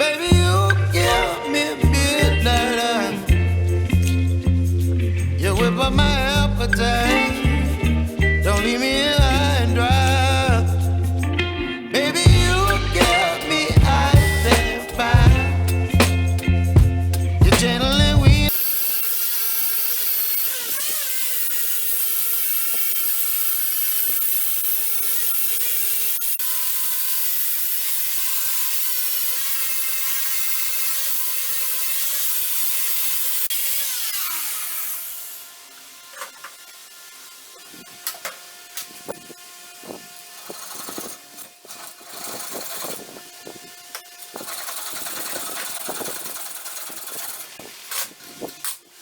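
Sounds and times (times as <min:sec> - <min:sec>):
power tool grinding with whine: 0:00.0 - 0:49.0.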